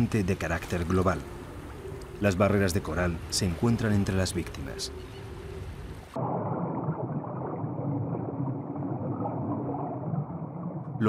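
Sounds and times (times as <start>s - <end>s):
muffled underwater wash: 0.0s - 11.0s.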